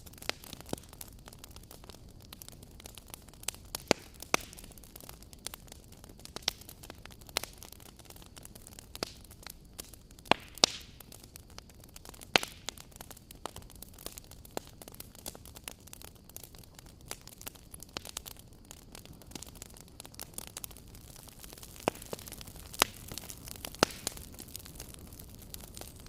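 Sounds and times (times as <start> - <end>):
soft steady hiss: 0.0 - 26.0
wood fire crackling and popping: 0.0 - 26.0.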